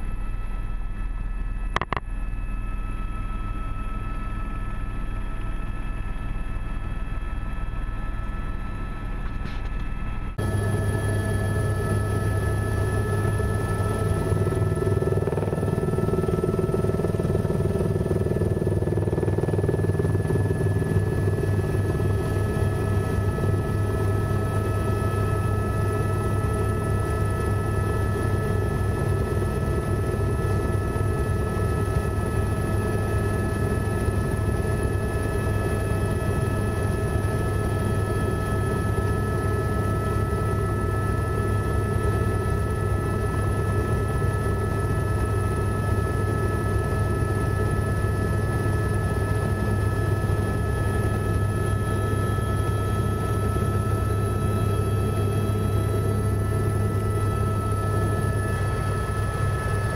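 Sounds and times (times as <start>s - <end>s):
helicopter engine whine: 0.0s - 59.9s
helicopter rotor beat: 10.0s - 59.9s.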